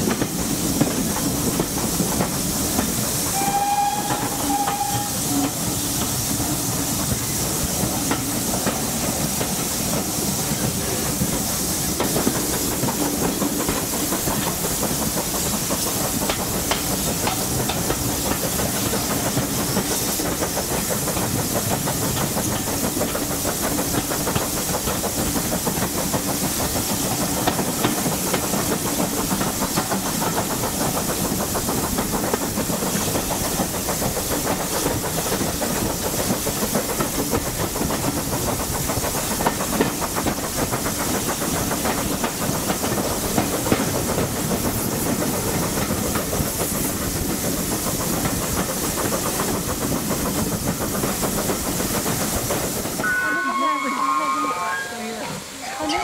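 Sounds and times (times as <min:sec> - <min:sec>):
train rushing hiss: 0:00.0 - 0:56.0.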